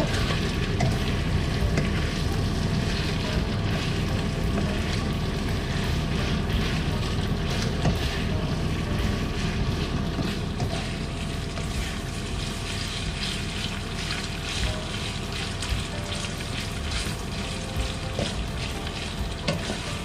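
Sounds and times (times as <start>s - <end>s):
chicken and onions sizzling: 0.0s - 20.0s
spatula scraping pan: 0.0s - 20.0s.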